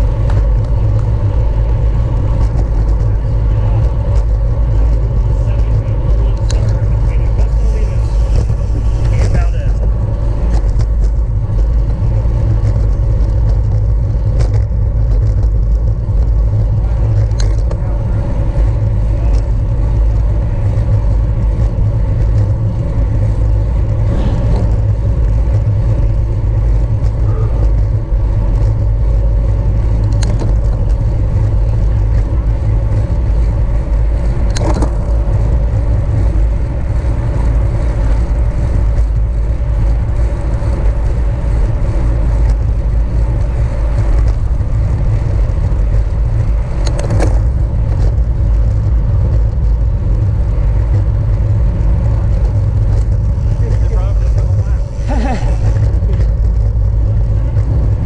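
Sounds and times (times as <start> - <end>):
bicycle tyre and drivetrain hum: 0.0 - 58.0
wind rumble on microphone: 0.0 - 58.0.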